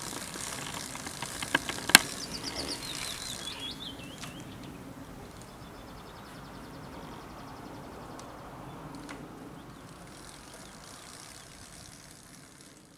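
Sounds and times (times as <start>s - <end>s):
low outdoor rumble: 0.0s - 12.9s.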